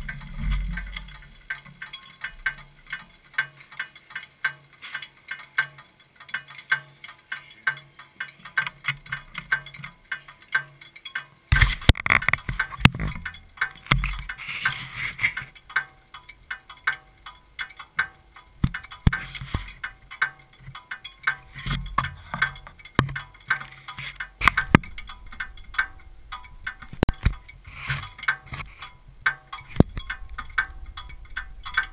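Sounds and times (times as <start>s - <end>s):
light steady ticking: 0.0s - 31.9s
scattered clicks: 0.0s - 31.9s.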